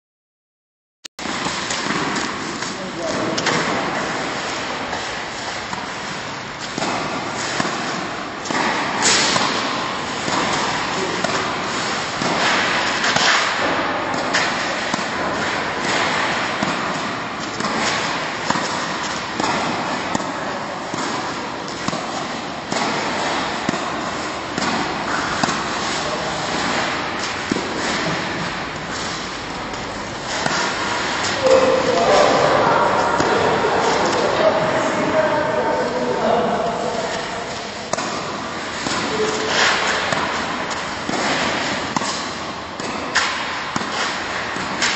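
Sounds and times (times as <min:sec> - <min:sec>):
tennis racket hitting ball: 0:01.2 - 0:44.9.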